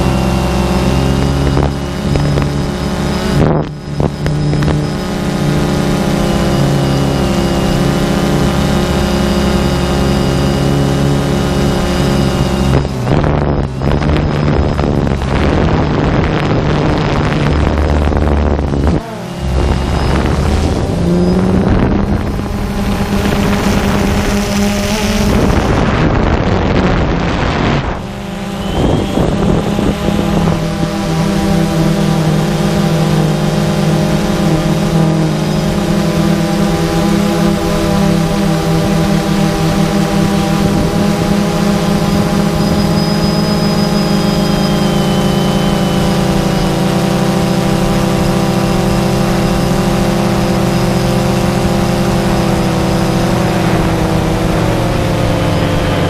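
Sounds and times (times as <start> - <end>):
drone propellers whining: 0.0 - 56.0
wind noise on microphone: 0.0 - 56.0.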